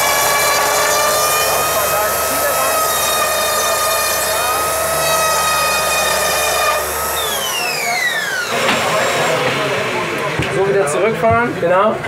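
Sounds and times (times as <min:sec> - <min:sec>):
electric saw whining: 0:00.0 - 0:11.0.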